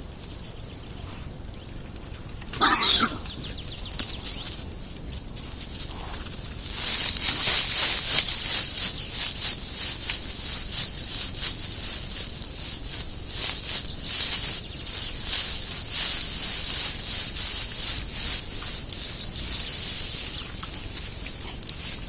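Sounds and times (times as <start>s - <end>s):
hoof-steps in leaf litter: 0.0s - 22.0s
rustling dry leaves: 0.0s - 22.0s.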